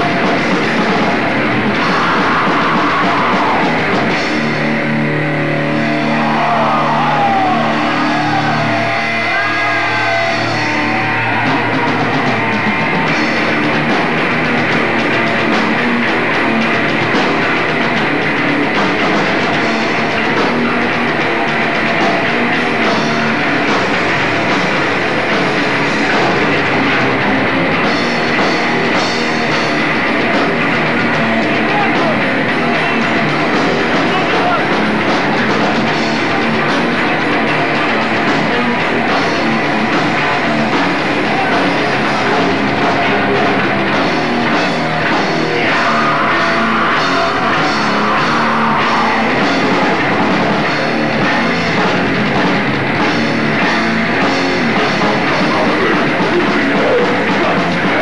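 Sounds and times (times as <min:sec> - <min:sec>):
death metal band playing: 0:00.0 - 0:58.0.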